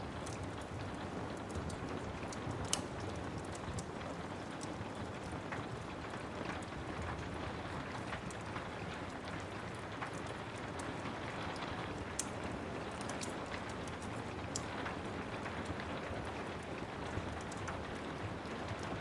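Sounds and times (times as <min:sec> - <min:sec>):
steady rain hiss: 0:00.0 - 0:19.0
wood fire crackling: 0:00.0 - 0:19.0.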